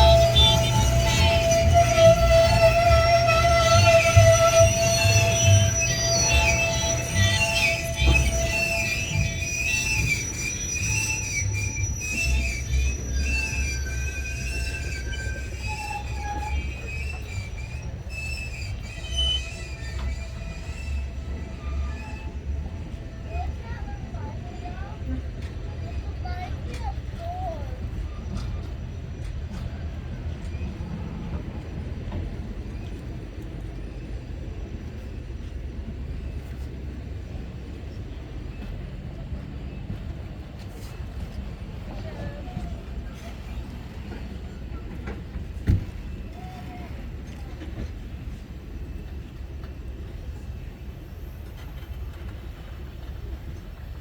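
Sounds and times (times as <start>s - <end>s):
wheel squeal: 0.0s - 53.8s
train wheels rumbling on rail: 0.0s - 54.0s.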